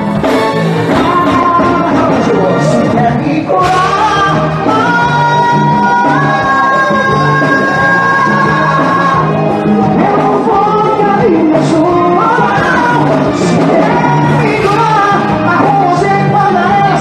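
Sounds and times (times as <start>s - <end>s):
live band playing loudly: 0.0s - 17.0s
man singing into microphone: 0.8s - 17.0s.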